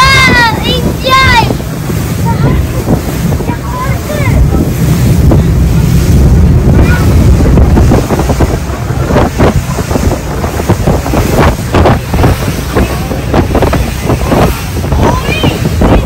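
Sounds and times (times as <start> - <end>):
boat engine low rumble: 0.0 - 16.0
wind buffeting microphone: 0.0 - 16.0
spray splashing off hull: 0.3 - 16.0.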